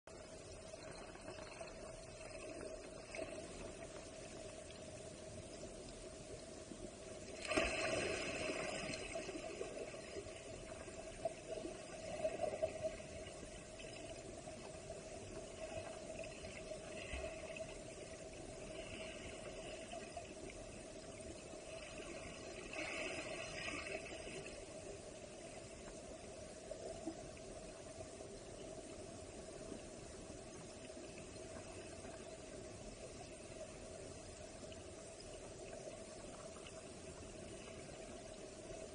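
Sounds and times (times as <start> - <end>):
muffled rush of water underwater: 0.1 - 38.9.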